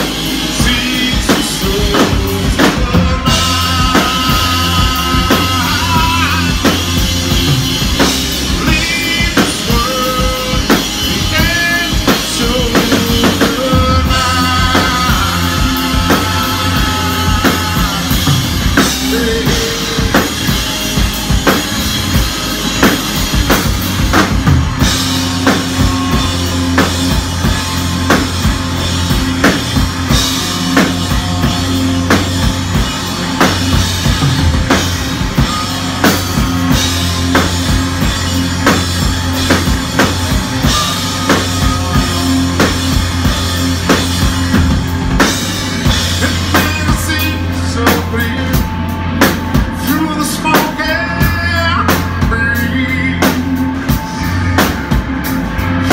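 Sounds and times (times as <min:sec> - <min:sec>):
bass guitar: 0:00.0 - 0:55.9
drum kit beat: 0:00.0 - 0:55.9
electric guitar: 0:00.0 - 0:55.9.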